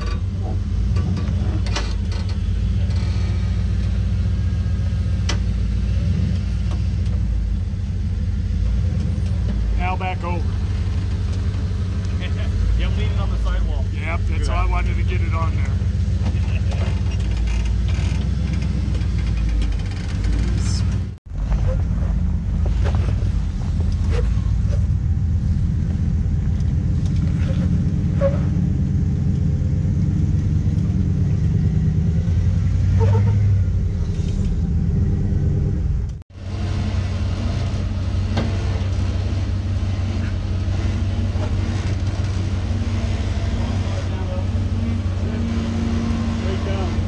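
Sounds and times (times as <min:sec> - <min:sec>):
engine rumbling at low revs: 0:00.0 - 0:47.0.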